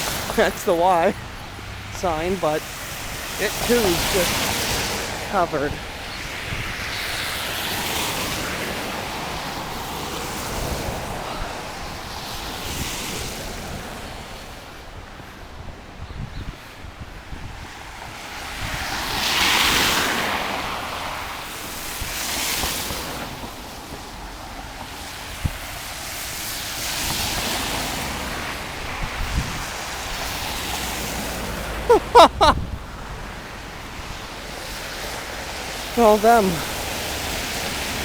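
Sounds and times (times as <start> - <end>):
vehicles swishing through wet slush: 0.0 - 16.0, 16.6 - 38.0
wind: 0.0 - 38.0.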